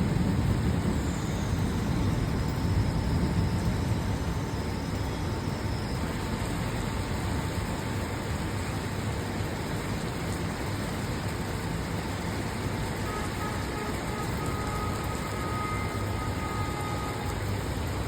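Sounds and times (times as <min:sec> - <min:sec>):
heavy rain hiss: 0:00.0 - 0:18.0.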